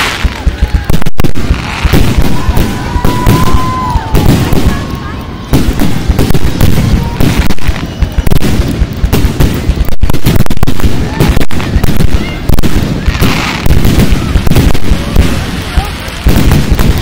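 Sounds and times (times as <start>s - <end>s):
firework shells bursting: 0.0s - 17.0s.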